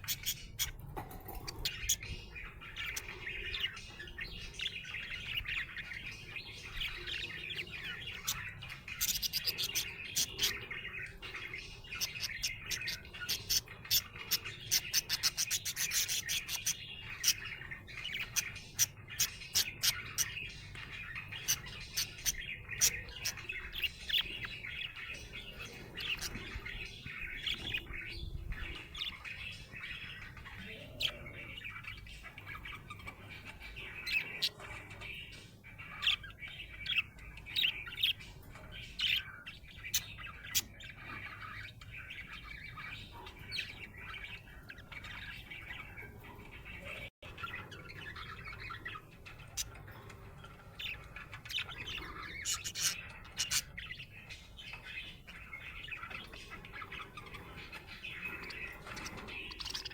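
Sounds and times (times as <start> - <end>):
budgie chirping and chattering: 0.0 - 59.9.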